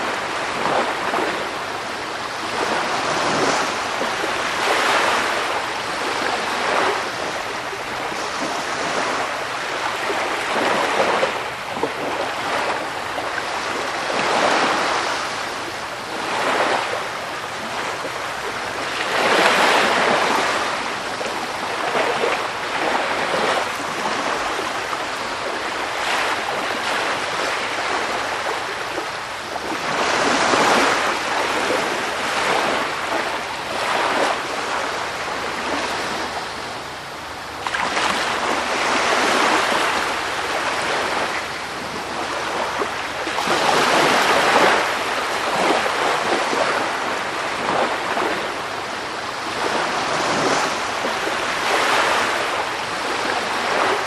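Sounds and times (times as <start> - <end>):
waves washing onto shore: 0.0 - 54.0.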